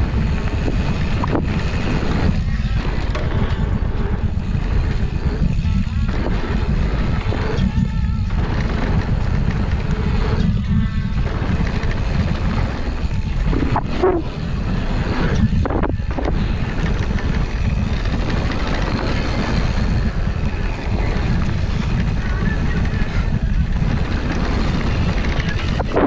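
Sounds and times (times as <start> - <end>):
bike rattling over bumps: 0.0 - 26.0
tyre noise on packed dirt: 0.0 - 26.0
wind buffeting microphone: 0.0 - 26.0.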